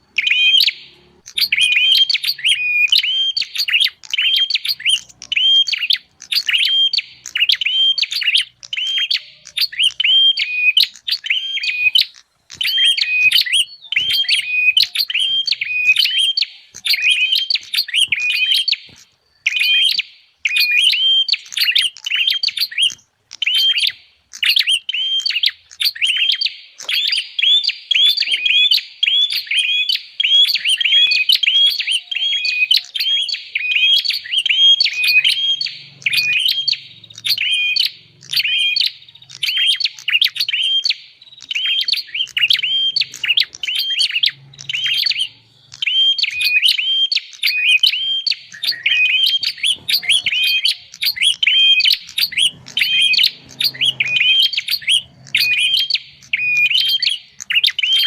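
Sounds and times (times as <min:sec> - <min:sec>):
bird sharp repeated chirps: 0:00.0 - 0:58.0.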